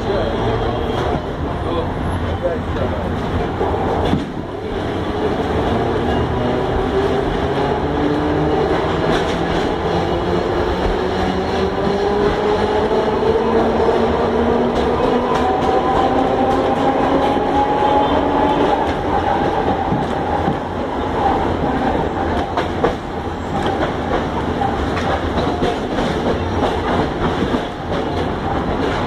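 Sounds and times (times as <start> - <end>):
steady tram rumble: 0.0 - 29.0
wheels clacking over rail joints: 3.2 - 29.0.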